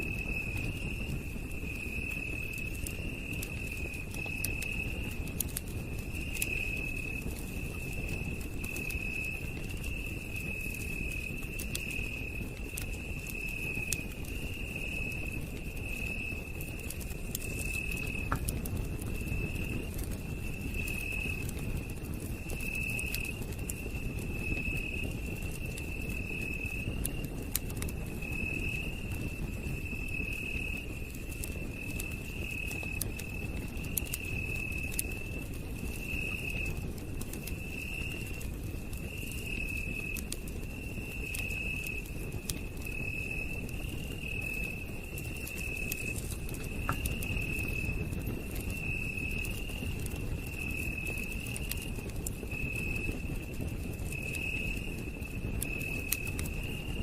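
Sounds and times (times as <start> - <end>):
campfire crackling: 0.0 - 57.0
night insects trilling: 0.0 - 57.0.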